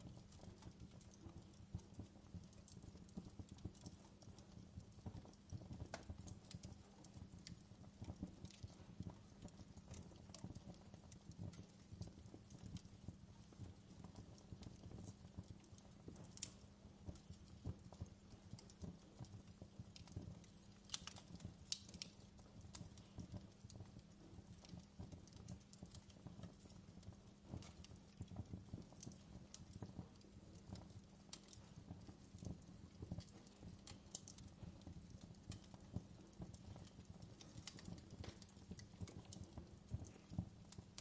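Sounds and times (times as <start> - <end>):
low rumble of burning: 0.0 - 41.0
wood fire crackling and popping: 0.0 - 41.0.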